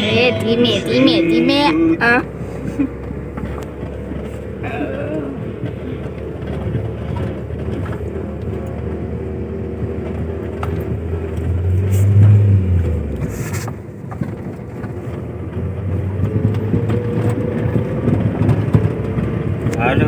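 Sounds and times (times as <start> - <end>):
car engine: 0.0 - 20.0
road noise: 0.0 - 20.0.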